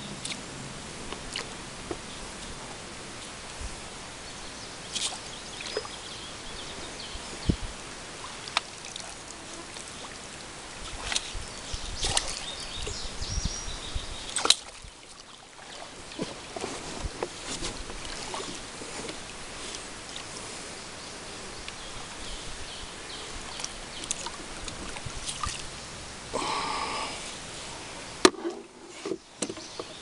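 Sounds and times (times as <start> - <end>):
outdoor background noise: 0.0 - 30.0.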